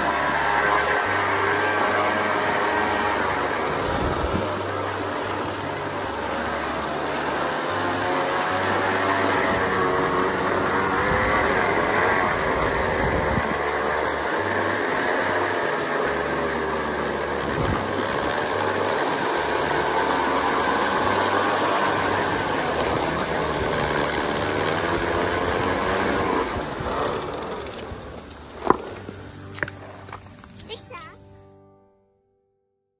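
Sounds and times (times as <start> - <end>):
roller slide whirring rumble: 0.0 - 30.7.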